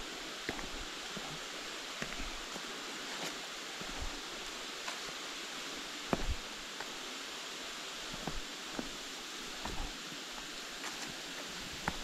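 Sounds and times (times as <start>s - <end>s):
footsteps crunching on trail: 0.0s - 5.2s, 6.1s - 7.0s, 8.1s - 12.0s
flowing water: 0.0s - 12.0s.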